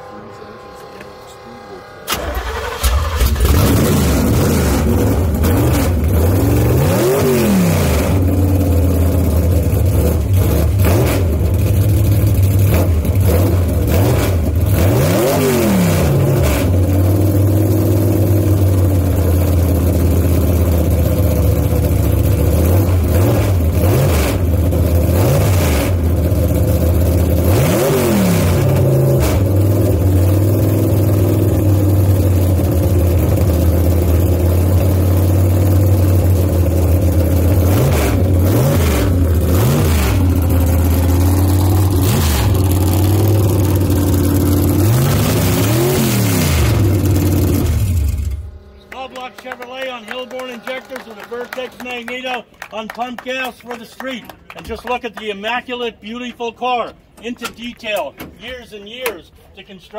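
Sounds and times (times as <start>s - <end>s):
drag car engine idling: 0.0s - 7.0s, 7.6s - 14.8s, 16.0s - 25.2s, 25.9s - 27.5s, 28.5s - 53.3s
engine revving: 0.0s - 52.4s.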